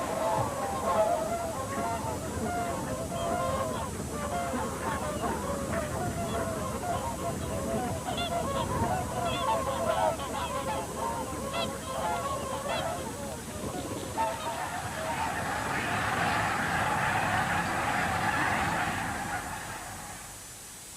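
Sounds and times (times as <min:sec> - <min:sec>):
flock of waterfowl honking: 0:00.0 - 0:20.6.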